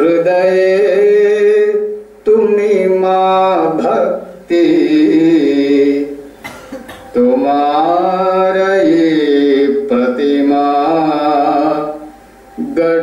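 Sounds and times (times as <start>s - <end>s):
person singing chant-like melody: 0.0s - 13.0s.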